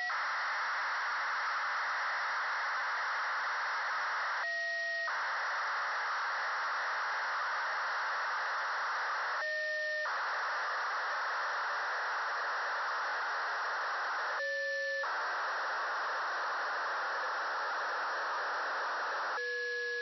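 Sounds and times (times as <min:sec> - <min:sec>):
radio hiss: 0:00.0 - 0:20.0
steady radio tones: 0:00.0 - 0:20.0.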